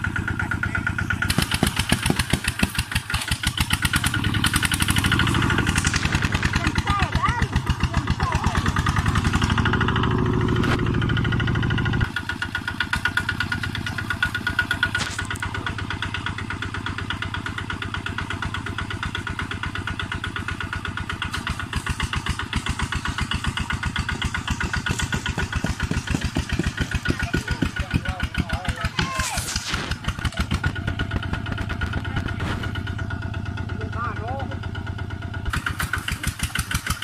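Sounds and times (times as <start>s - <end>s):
diesel engine chugging: 0.0s - 37.0s.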